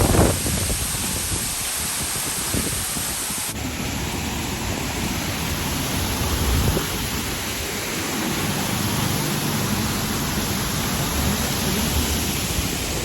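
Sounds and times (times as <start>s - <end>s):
waterfall pouring and splashing: 0.0s - 13.0s.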